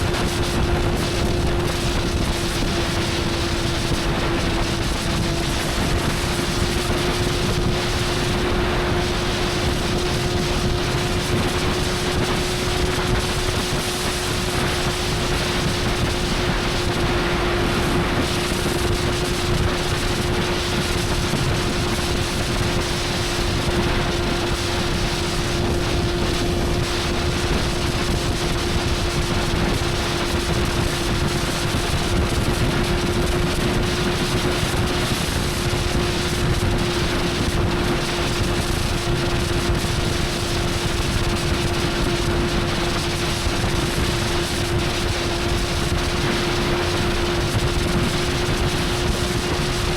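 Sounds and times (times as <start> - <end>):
wind rush on microphone: 0.0 - 49.9.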